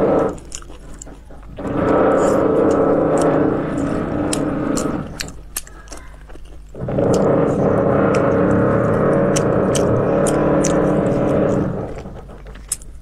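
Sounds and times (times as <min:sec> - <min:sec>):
loud steady hum: 0:00.0 - 0:05.8, 0:06.7 - 0:13.0
wet mouth chewing clicks: 0:00.0 - 0:13.0.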